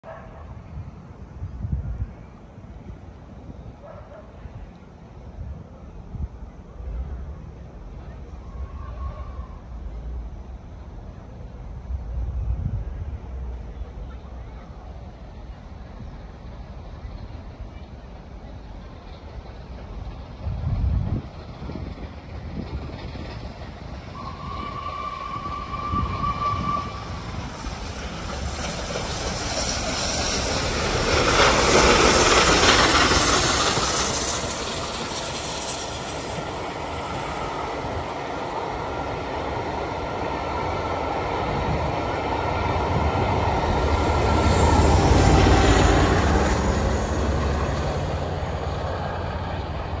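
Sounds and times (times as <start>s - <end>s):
steam locomotive passing: 0.2s - 50.0s.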